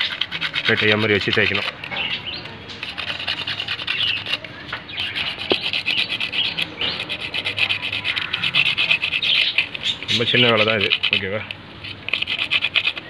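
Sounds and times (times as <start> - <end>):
abrasive cloth scraping steel shaft: 0.0 - 13.0.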